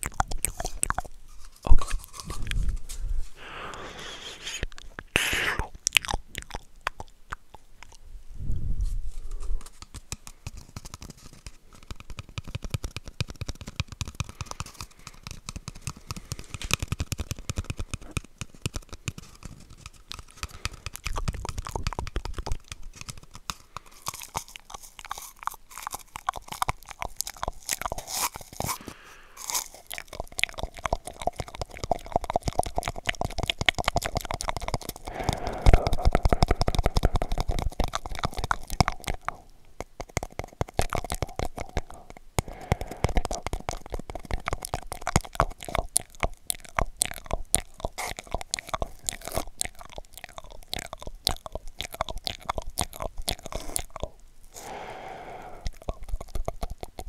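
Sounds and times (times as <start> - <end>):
wet mouth clicks and smacks: 0.0 - 2.8, 3.4 - 8.0, 9.6 - 57.0.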